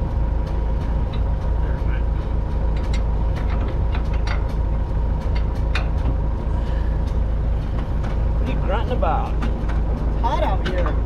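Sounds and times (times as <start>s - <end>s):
farm machinery rumble and hum: 0.0s - 11.0s.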